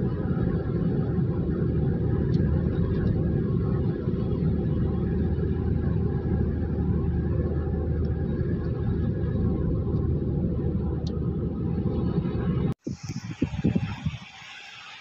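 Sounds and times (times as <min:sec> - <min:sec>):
car engine and tyre rumble: 0:00.0 - 0:12.7.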